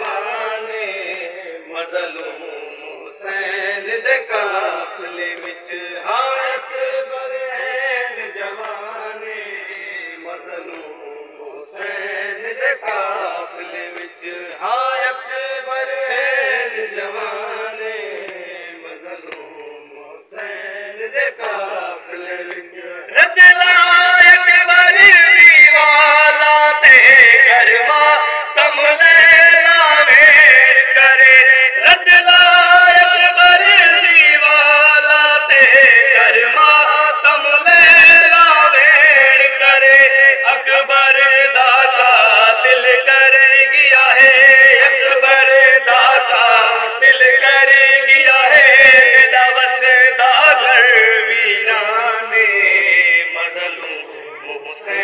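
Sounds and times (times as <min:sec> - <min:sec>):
young men chanting a lament: 0:00.0 - 0:55.0.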